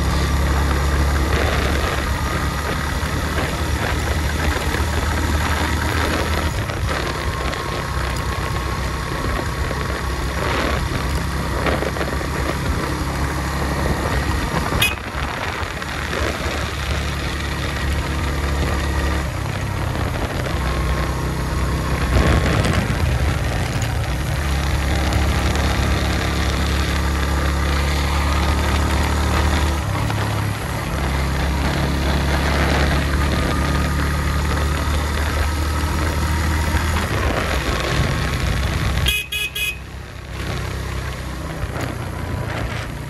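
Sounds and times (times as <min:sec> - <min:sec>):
motorcycle engine running: 0:00.0 - 0:43.0
wind and road noise: 0:00.0 - 0:43.0.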